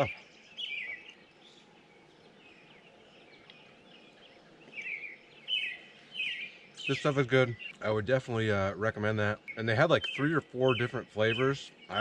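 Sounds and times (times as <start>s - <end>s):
faint bird chirps: 0.0s - 12.0s
songbird singing falling notes: 0.0s - 12.0s.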